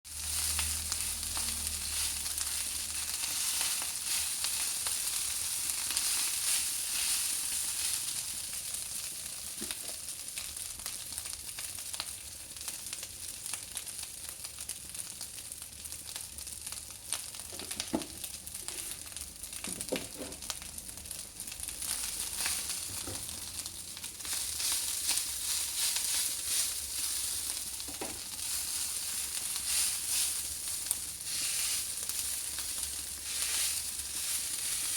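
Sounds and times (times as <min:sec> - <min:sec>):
rice sizzling in hot oil: 0:00.1 - 0:34.9.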